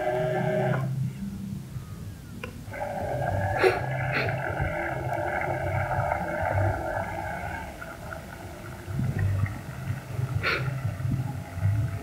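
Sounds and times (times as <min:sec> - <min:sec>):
low uneven rumbling: 0:00.0 - 0:12.0.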